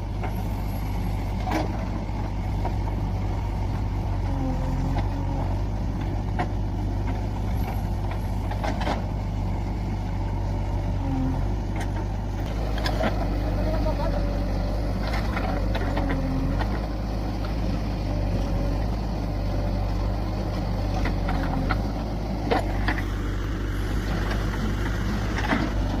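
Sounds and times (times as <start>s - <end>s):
diesel engine under load: 0.0s - 26.0s.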